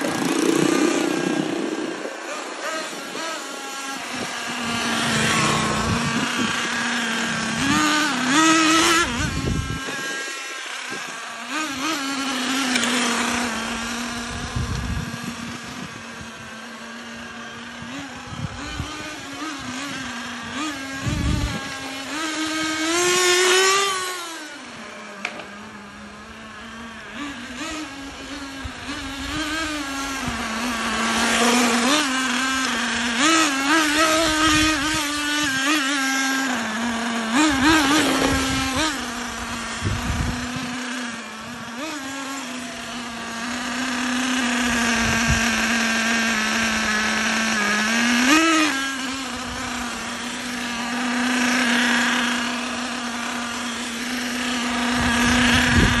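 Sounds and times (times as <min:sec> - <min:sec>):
rc car engine revving: 0:00.0 - 0:56.0.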